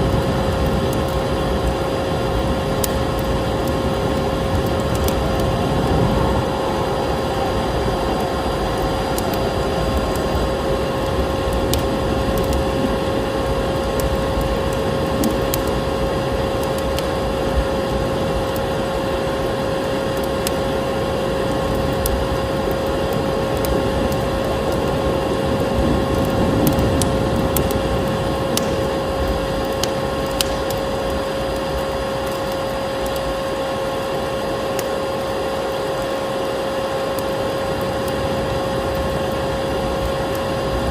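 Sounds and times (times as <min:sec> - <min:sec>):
vacuum cleaner running: 0:00.0 - 0:40.9
wood fire crackling and popping: 0:00.0 - 0:40.9.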